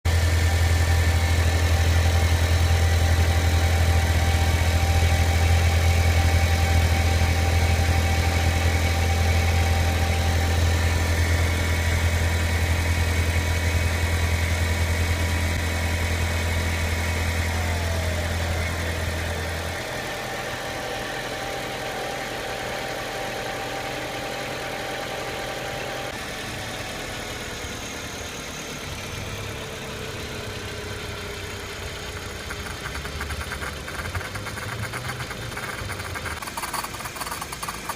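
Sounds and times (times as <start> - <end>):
car engine idling: 0.0 - 37.9
loud low hum: 0.1 - 36.4.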